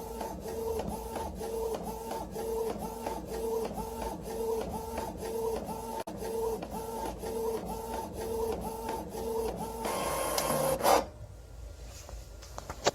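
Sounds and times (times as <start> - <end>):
printer mechanism cycling: 0.0 - 11.1.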